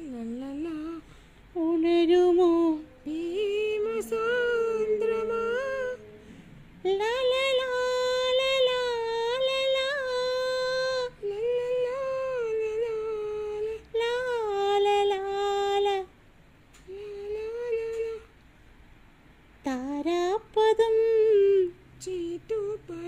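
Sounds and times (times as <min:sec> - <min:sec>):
boy singing slow melody: 0:00.0 - 0:16.2, 0:16.8 - 0:18.4, 0:19.6 - 0:23.0.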